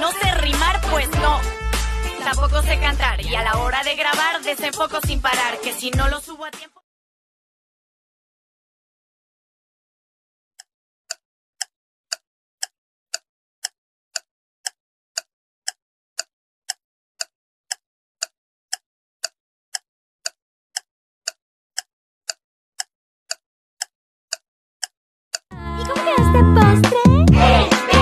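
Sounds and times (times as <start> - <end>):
clock ticking: 0.0 - 1.6, 2.2 - 6.3, 10.6 - 27.6.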